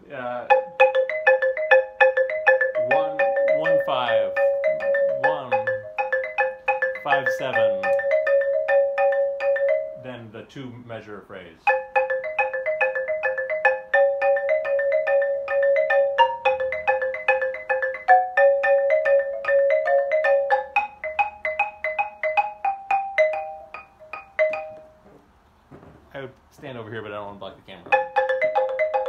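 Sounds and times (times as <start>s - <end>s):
xylophone ragtime playing: 0.2s - 11.0s, 11.6s - 25.1s, 27.8s - 29.0s.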